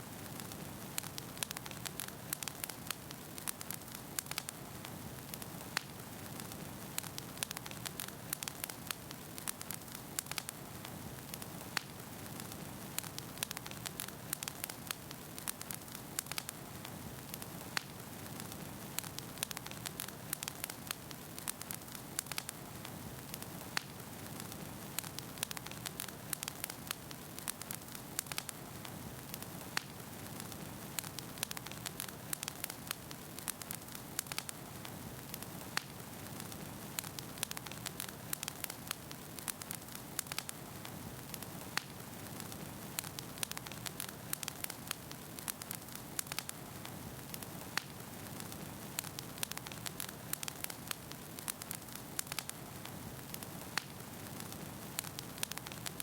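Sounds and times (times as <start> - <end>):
logs crackling and popping: 0.0 - 56.0.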